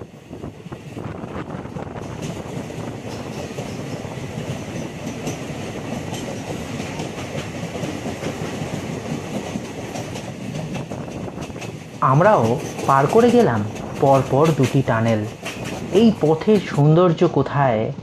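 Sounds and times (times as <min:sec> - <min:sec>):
train wheels rumbling in tunnel: 0:00.0 - 0:18.0.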